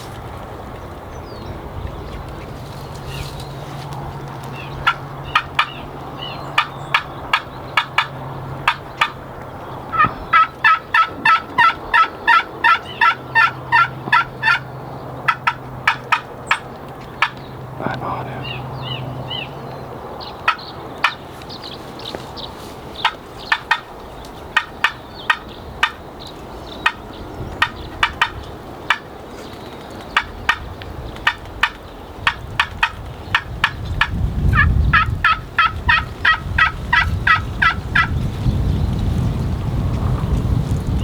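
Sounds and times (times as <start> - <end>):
wild turkey calling: 0.0 - 19.6, 20.2 - 38.3
wind noise rumble: 0.0 - 41.0.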